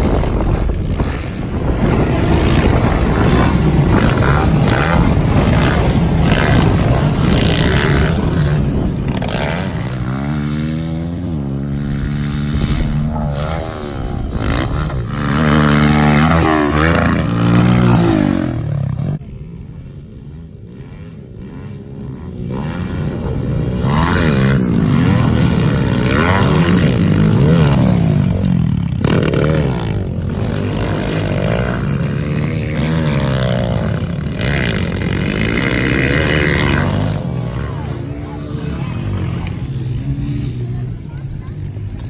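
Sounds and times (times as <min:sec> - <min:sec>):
pit bike engines revving: 0:00.0 - 0:42.0.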